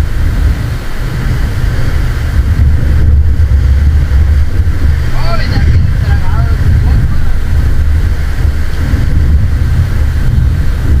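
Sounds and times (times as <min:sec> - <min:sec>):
heavy surf: 0:00.0 - 0:11.0
wind buffeting microphone: 0:00.0 - 0:11.0.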